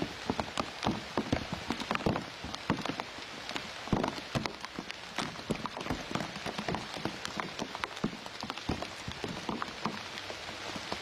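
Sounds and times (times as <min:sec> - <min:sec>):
rain hiss: 0:00.0 - 0:11.0
raindrops tapping: 0:00.0 - 0:11.0.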